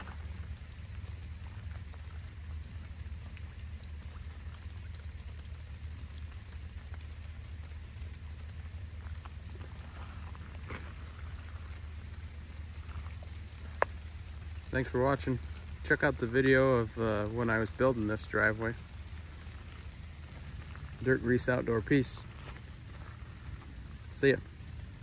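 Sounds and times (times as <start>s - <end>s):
water dripping and splashing: 0.0s - 25.0s
water rushing through drainage pipe: 0.0s - 25.0s.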